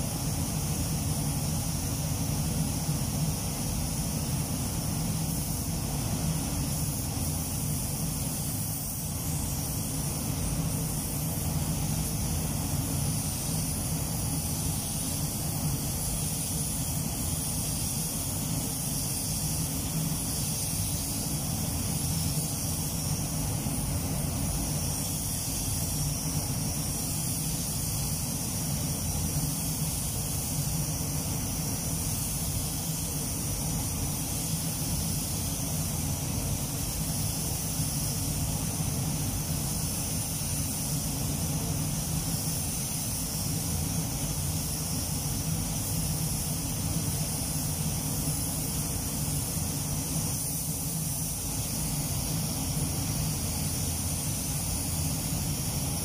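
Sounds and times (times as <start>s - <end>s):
spray gun hissing: 0.0s - 56.0s
ventilation air rush: 0.0s - 56.0s.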